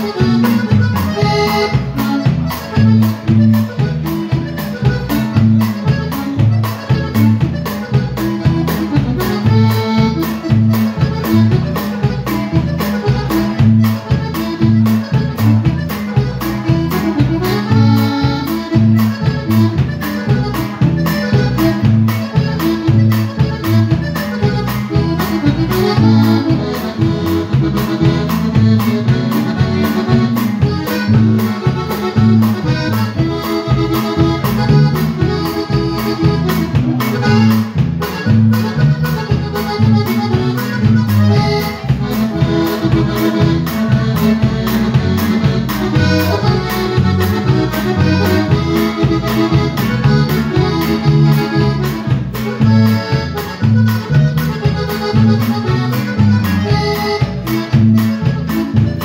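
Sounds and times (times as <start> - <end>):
accordion melody: 0.0 - 59.0
drums beating: 0.0 - 59.0.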